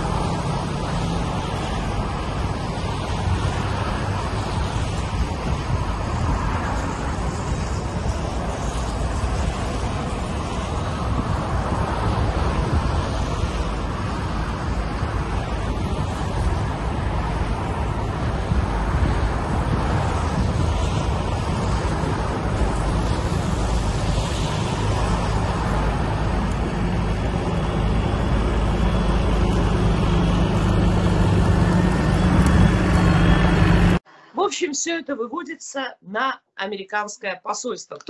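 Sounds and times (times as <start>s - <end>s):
passing cars: 0.0s - 34.1s.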